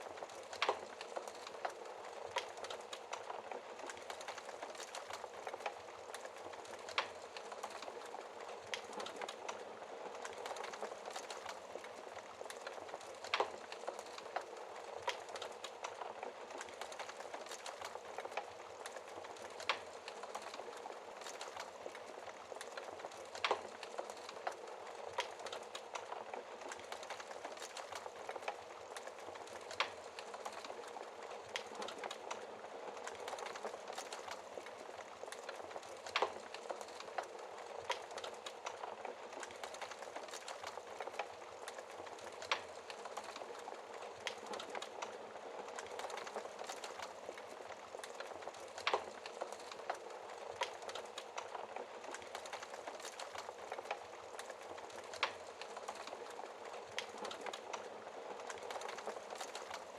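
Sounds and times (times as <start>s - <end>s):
wood fire hissing and crackling: 0.0s - 59.9s.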